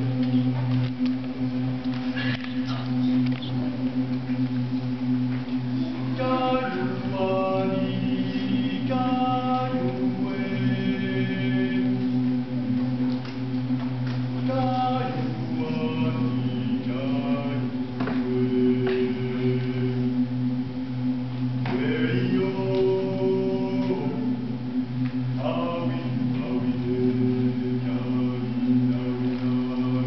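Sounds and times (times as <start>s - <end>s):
choir holding low drone: 0.0s - 30.0s
choir singing rising melody: 0.0s - 30.0s.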